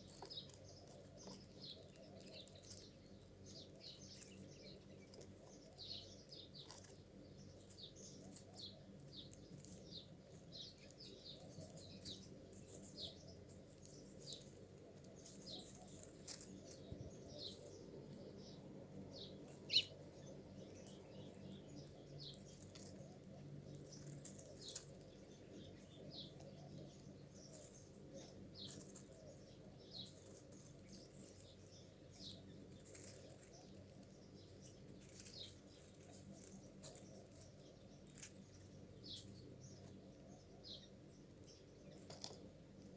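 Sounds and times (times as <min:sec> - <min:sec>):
faint low hum: 0:00.0 - 0:42.9
small birds chirping: 0:00.0 - 0:42.9.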